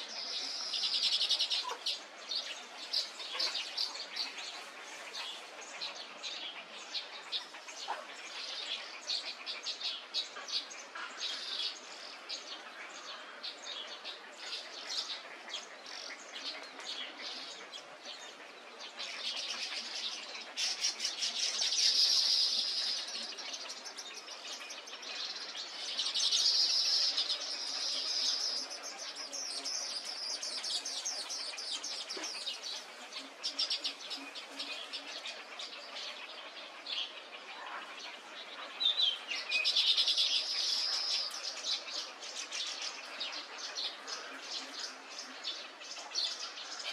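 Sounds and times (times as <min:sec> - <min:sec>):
chorus of birds chirping: 0:00.0 - 0:46.9.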